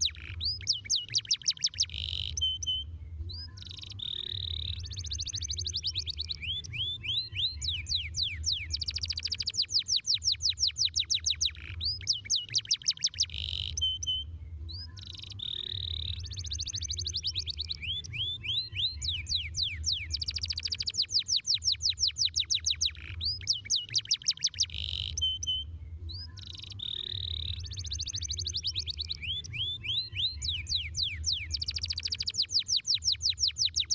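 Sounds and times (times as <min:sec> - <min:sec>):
canary trilling: 0:00.0 - 0:02.8, 0:03.6 - 0:14.2, 0:15.0 - 0:25.6, 0:26.4 - 0:33.9.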